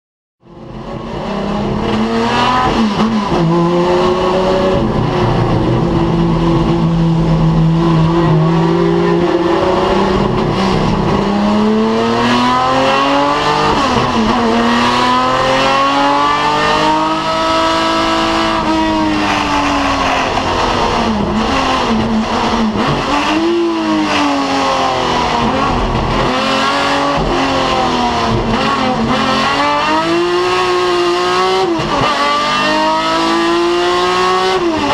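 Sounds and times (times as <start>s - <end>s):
racing car engine revving: 0.5s - 34.9s.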